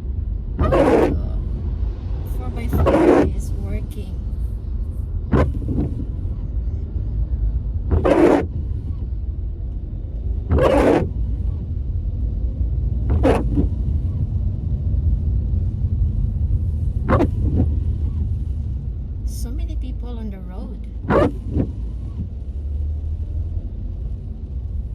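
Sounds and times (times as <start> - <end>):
road and engine rumble: 0.0 - 24.9
windscreen wiper swishing: 0.4 - 19.5, 20.9 - 24.9.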